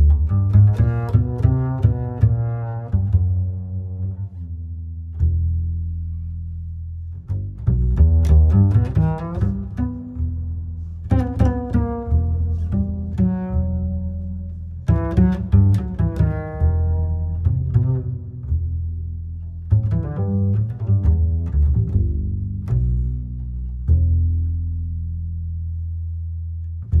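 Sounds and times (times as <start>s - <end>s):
deep sustained bass: 0.0s - 27.0s.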